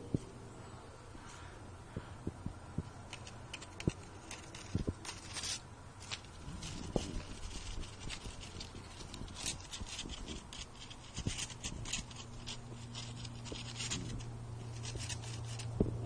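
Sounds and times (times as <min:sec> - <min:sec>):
steady low hum: 0:00.0 - 0:16.0
dry leaves scraping on paving stones: 0:02.9 - 0:16.0.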